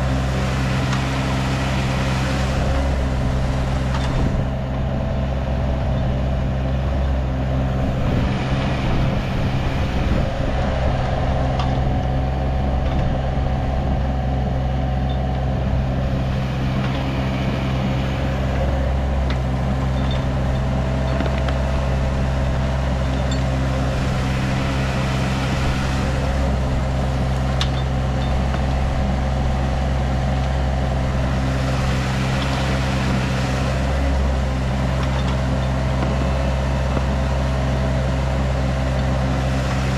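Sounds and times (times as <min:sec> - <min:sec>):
diesel excavator engine drone: 0:00.0 - 0:39.9.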